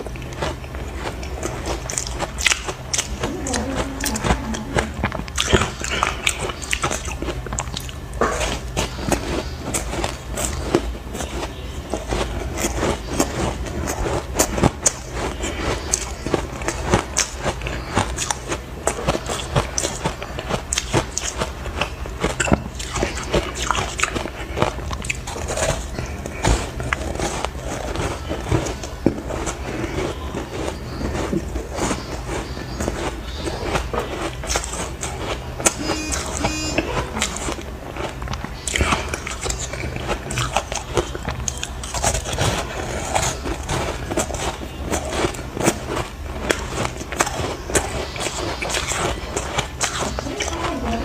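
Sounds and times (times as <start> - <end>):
ice crunching being chewed: 0.0 - 51.0
steady low hum: 0.0 - 51.0.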